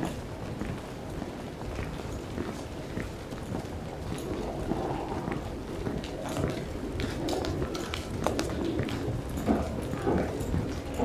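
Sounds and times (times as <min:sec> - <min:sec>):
footsteps on stone tiles: 0:00.0 - 0:11.0.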